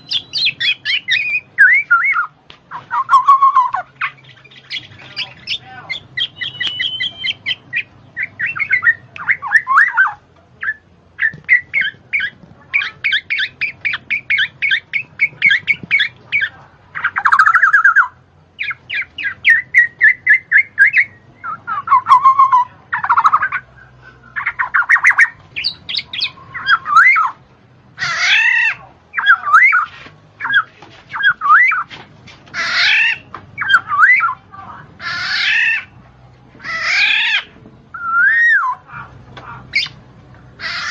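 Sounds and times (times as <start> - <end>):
bird singing trills and chirps: 0.0 - 27.4, 28.0 - 31.9, 32.5 - 36.0, 36.6 - 40.0.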